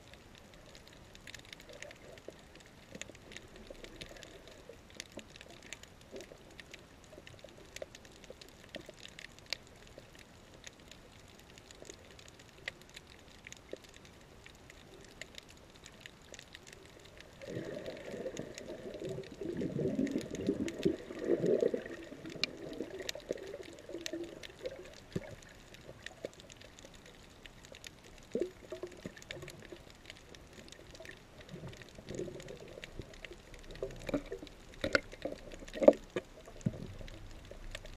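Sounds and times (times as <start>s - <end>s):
muffled churning water: 0.0s - 37.9s
sharp underwater clicks: 0.1s - 37.9s.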